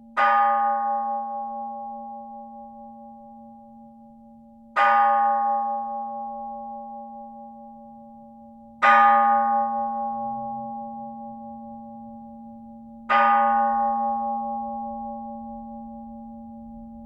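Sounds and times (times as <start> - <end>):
temple bell ringing: 0.1 - 17.0.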